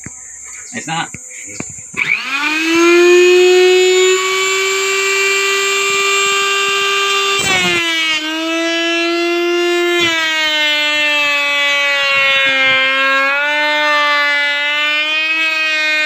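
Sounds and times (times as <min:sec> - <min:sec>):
router motor whining: 0:01.6 - 0:16.0
router bit rasping wood: 0:02.0 - 0:16.0.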